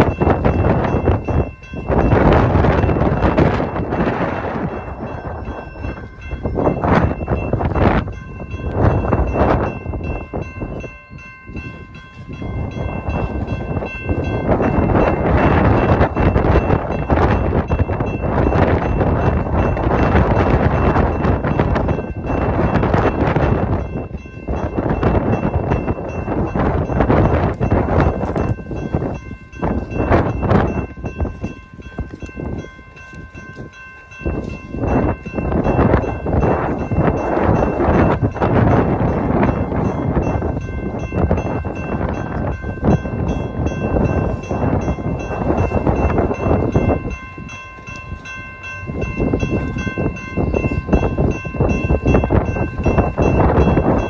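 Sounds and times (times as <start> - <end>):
railroad crossing bell ringing: 0.0 - 54.0
wind buffeting microphone: 0.0 - 54.0.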